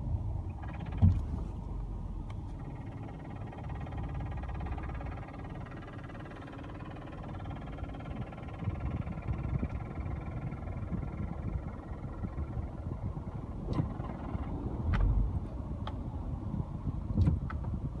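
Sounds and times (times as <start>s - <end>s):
car cabin rumble: 0.0s - 18.0s.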